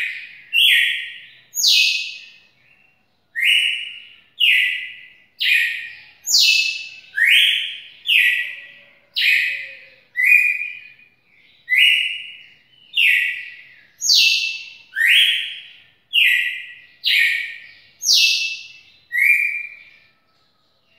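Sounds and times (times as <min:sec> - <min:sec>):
bird singing: 0:00.0 - 0:20.9.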